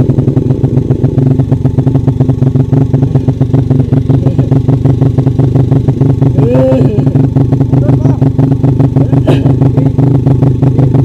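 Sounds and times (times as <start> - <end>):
motorcycle engine chugging: 0.0 - 11.0.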